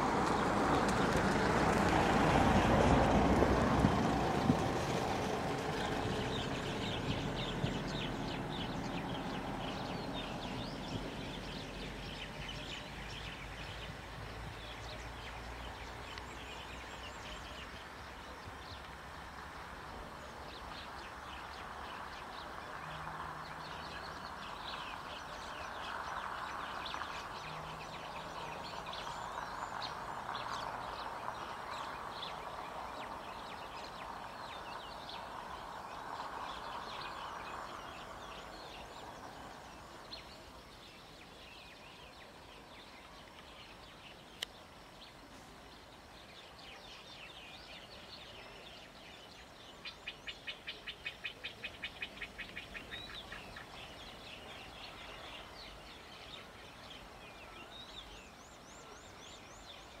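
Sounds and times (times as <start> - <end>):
steady outdoor hiss: 0.0 - 60.0
small birds chirping: 3.9 - 60.0.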